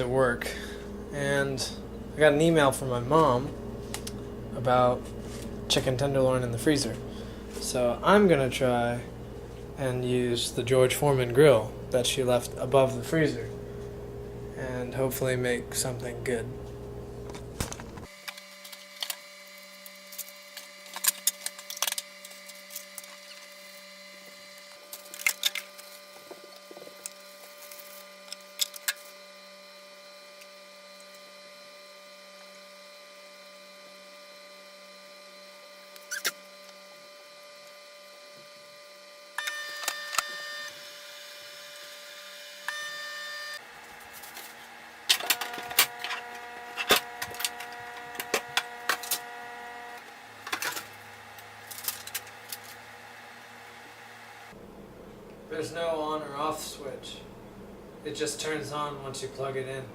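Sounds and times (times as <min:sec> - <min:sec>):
higher appliance hum: 0:00.0 - 0:59.9
steady electrical hum: 0:00.0 - 0:59.9.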